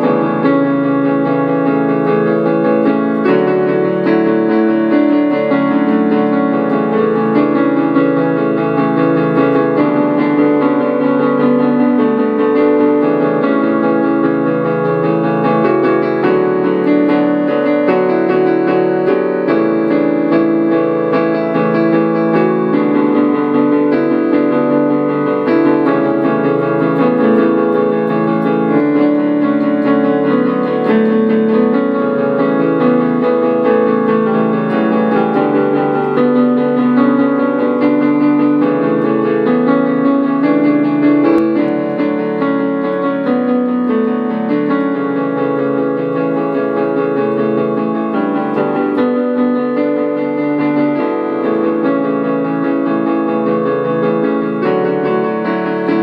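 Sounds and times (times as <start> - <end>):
piano playing pop song: 0.0 - 56.0.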